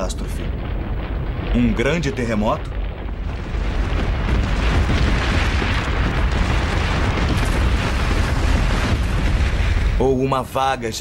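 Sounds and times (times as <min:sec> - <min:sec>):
stone tower crashing down: 0:00.0 - 0:10.4
deep rumble: 0:00.0 - 0:10.8.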